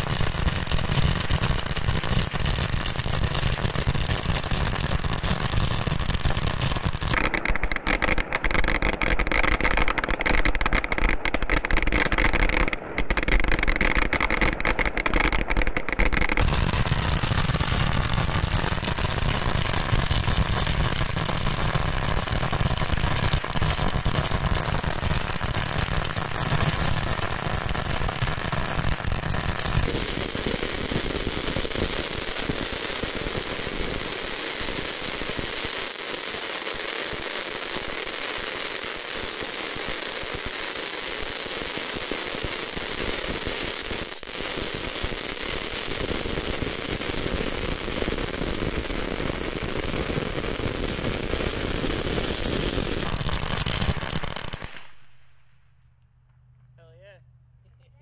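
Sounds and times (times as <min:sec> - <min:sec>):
firecracker roll crackling: 0:00.0 - 0:56.0.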